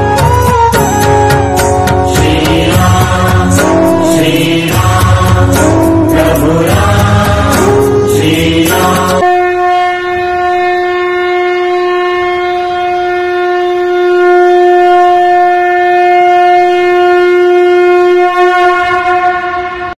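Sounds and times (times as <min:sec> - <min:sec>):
conch shell blown: 0:00.0 - 0:20.0.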